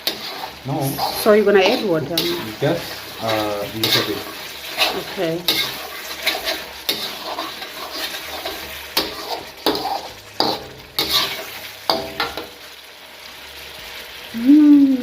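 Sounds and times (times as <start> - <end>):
spoon scraping and knocking pan: 0.0 - 12.6
meat sizzling in a pan: 0.0 - 15.0.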